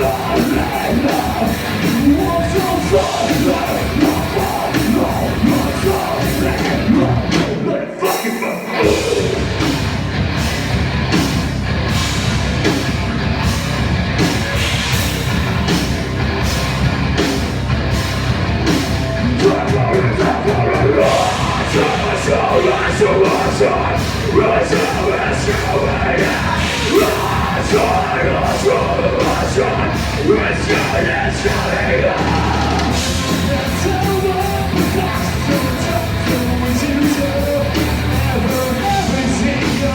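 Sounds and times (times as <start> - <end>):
rock band playing heavy music: 0.0 - 39.9.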